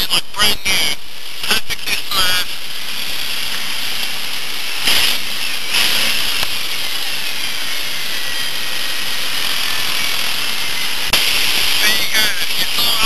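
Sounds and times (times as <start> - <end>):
car engine revving: 2.2 - 13.0.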